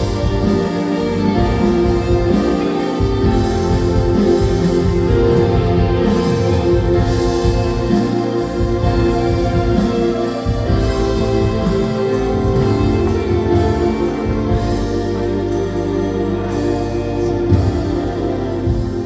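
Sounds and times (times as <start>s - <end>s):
bass line: 0.0s - 19.0s
keyboard and synthesizer chords: 0.0s - 19.0s.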